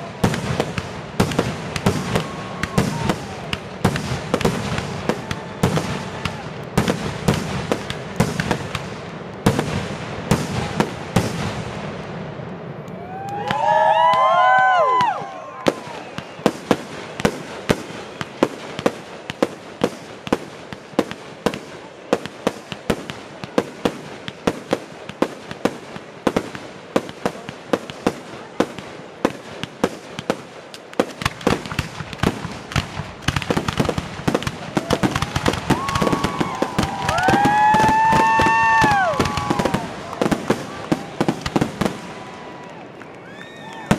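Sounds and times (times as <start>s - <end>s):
fireworks whistling: 0.0s - 12.0s, 13.1s - 43.9s
fireworks bangs and crackles: 0.0s - 43.9s.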